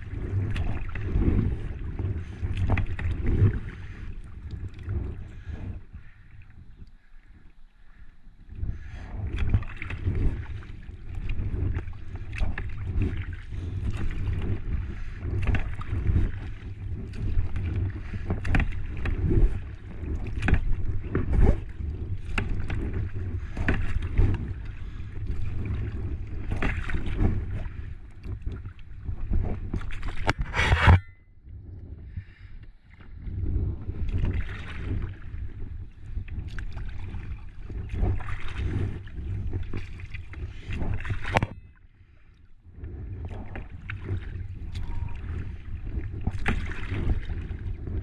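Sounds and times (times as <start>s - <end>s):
kayak paddle splashing: 0.0s - 31.1s, 33.0s - 48.0s
low wind rumble on microphone: 0.0s - 48.0s.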